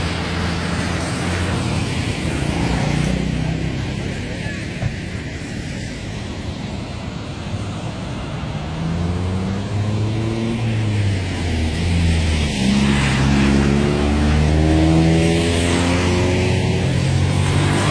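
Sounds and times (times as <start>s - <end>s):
rumble of traffic: 0.0s - 17.9s.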